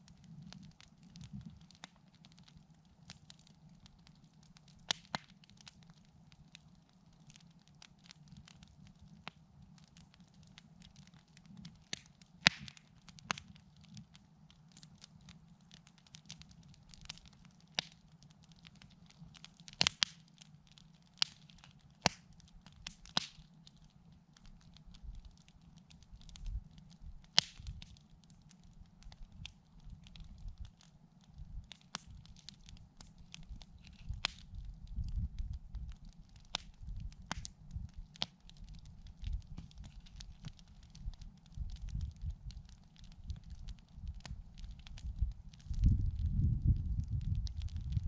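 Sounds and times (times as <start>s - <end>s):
burning wood popping: 0.0s - 48.0s
campfire crackling: 0.0s - 48.0s.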